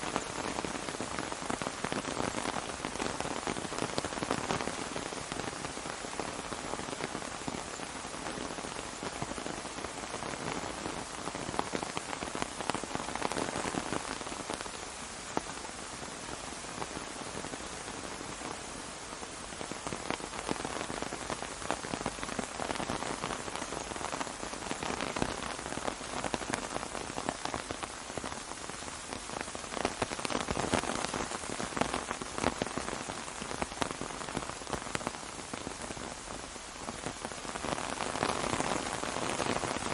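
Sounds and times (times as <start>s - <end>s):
rain falling on an umbrella: 0.0s - 39.9s.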